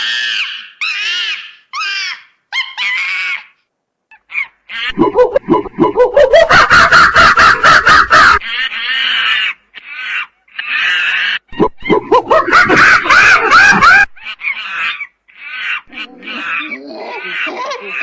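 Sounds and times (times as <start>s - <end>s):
monkeys squealing: 0.0s - 18.0s.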